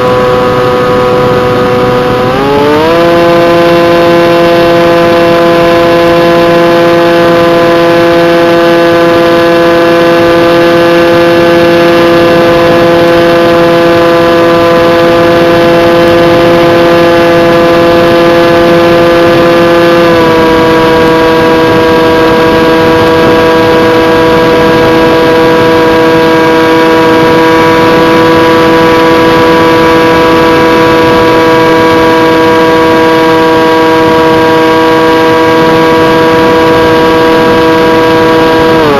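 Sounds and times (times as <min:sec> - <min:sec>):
model plane motor whine: 0:00.0 - 0:38.9.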